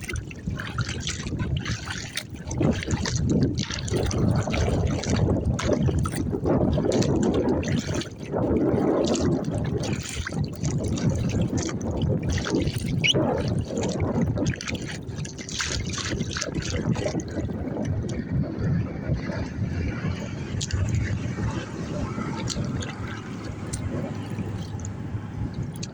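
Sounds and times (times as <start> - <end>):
water splashing around kayak: 0.0 - 25.9
wind rumble on microphone: 0.0 - 25.9.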